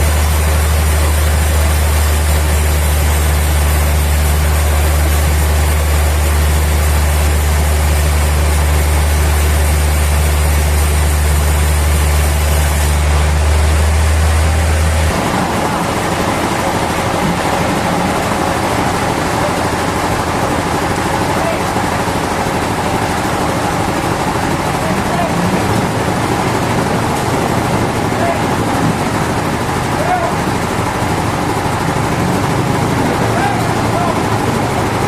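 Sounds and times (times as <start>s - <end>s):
bright rough machine noise: 0.0s - 35.0s
sawmill machinery humming: 0.0s - 35.0s.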